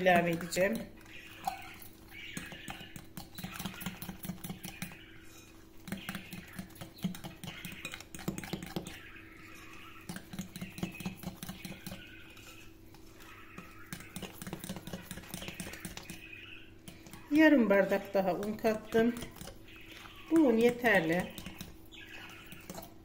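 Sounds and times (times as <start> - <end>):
whisk clinking and scraping glass bowl: 0.0 - 9.0, 9.6 - 16.2, 16.9 - 23.0.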